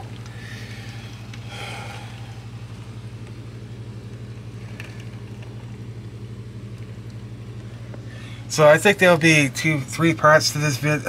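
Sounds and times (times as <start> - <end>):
low pulsing engine hum: 0.0 - 11.0.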